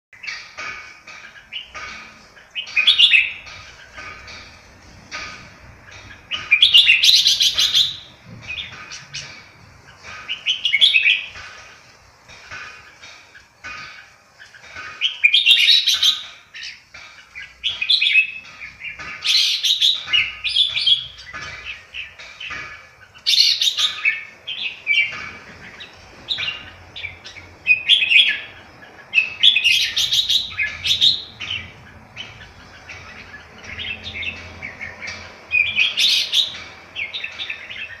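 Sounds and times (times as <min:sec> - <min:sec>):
bird singing warbled phrases: 0:01.2 - 0:11.6, 0:12.4 - 0:38.0.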